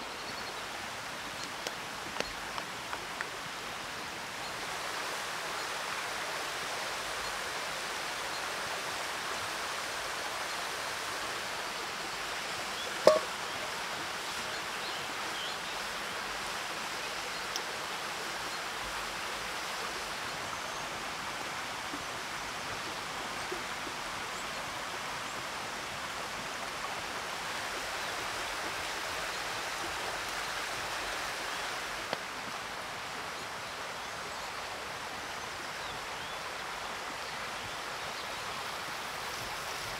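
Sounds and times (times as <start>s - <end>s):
stream-like hiss: 0.0s - 39.9s.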